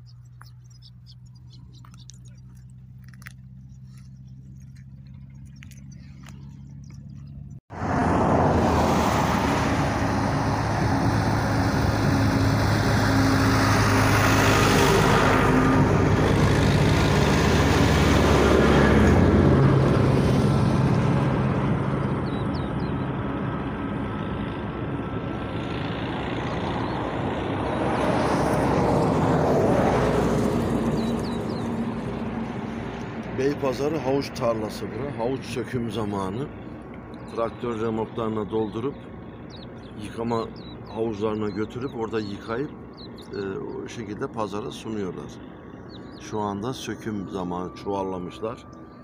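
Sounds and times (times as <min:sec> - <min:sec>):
vehicle engines and tyre noise: 0:00.0 - 0:49.0.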